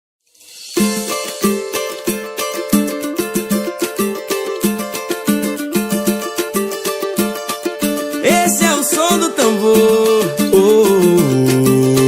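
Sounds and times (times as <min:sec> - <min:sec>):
sharp percussion strikes: 0:00.3 - 0:12.0
plucked strings: 0:00.4 - 0:12.0.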